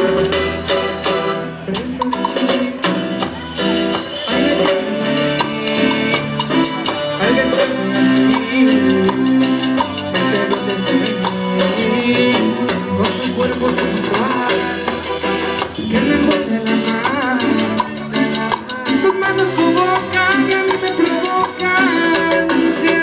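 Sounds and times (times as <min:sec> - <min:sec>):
live latin dance band: 0:00.0 - 0:23.0.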